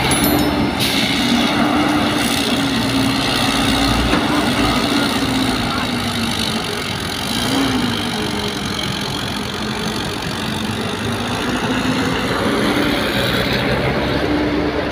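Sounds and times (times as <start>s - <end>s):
dump truck diesel engine: 0.0s - 14.9s
excavator working: 0.0s - 14.9s.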